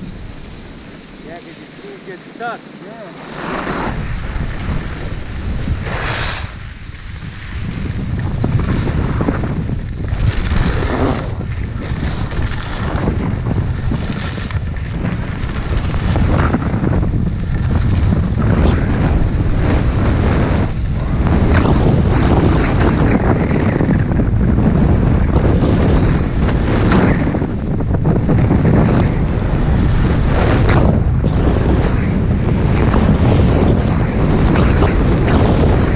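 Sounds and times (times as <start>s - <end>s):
skis scraping on snow: 0.0s - 30.8s
wind buffeting microphone: 0.0s - 35.9s.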